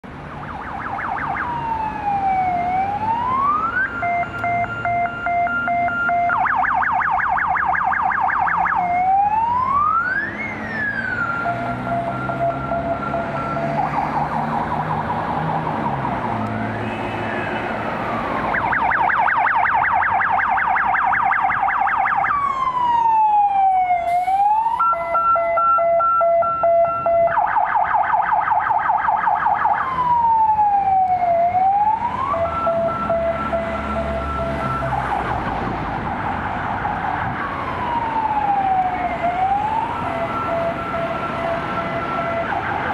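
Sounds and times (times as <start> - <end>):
police sirens wailing and yelping: 0.0 - 42.9.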